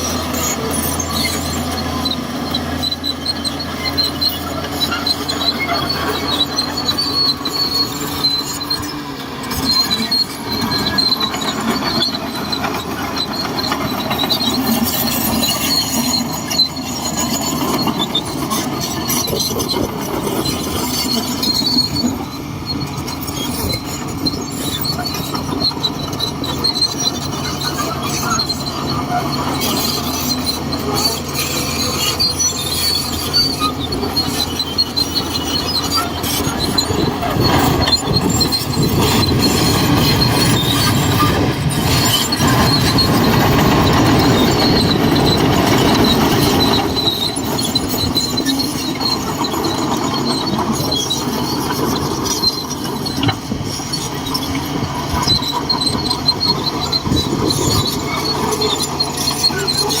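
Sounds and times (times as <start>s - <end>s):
bulldozer diesel engine: 0.0s - 60.0s
steel tracks squealing: 0.0s - 60.0s.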